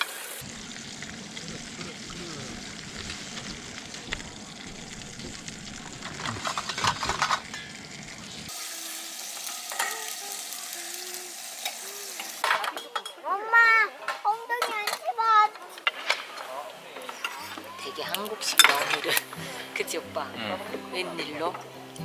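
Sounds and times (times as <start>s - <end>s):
food sizzling in a pan: 0.0s - 13.6s, 17.2s - 22.0s.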